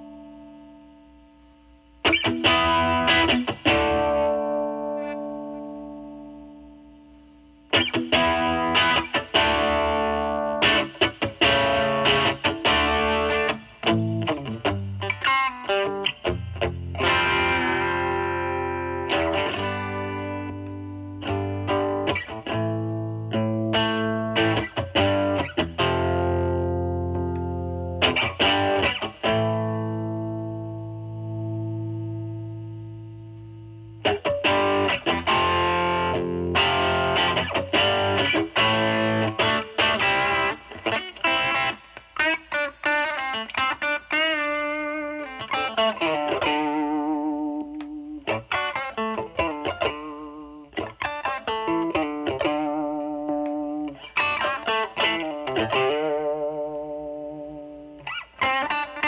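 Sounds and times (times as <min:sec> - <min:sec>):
overdriven electric guitar: 0:00.0 - 0:59.0.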